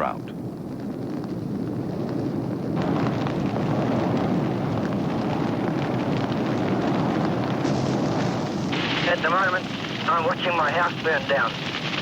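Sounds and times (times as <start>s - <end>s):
fire roaring and crackling: 0.0s - 12.0s.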